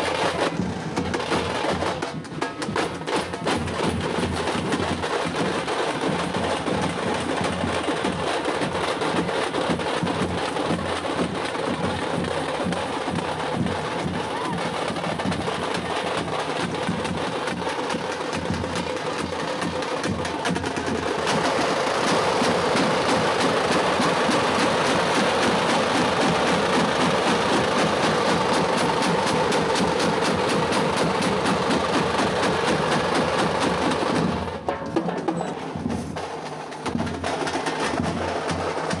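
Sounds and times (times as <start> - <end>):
frame drums beaten with sticks: 0.0 - 39.0.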